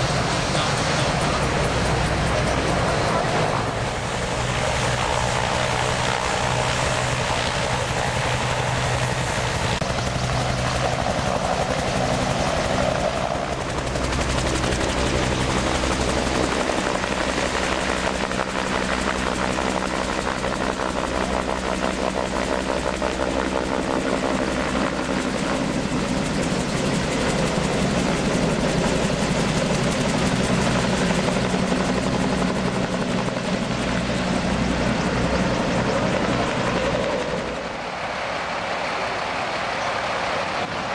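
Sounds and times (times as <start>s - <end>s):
helicopter engine running: 0.0s - 40.9s.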